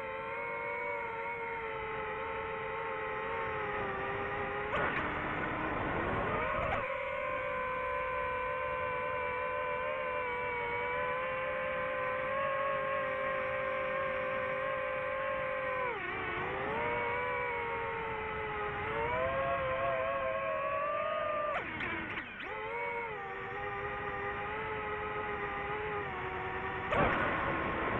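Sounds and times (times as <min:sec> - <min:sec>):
drone propellers whining: 0:00.0 - 0:27.9.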